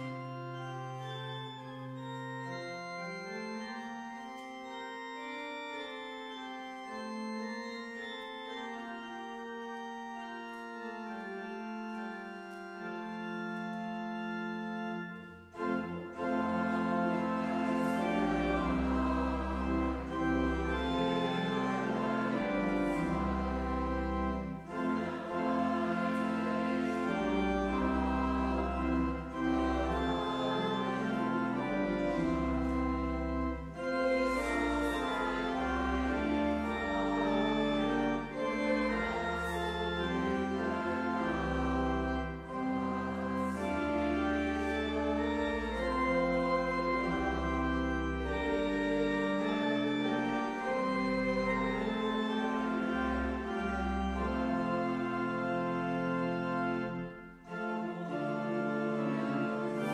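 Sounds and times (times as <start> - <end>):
church organ playing hymn: 0.0 - 59.9.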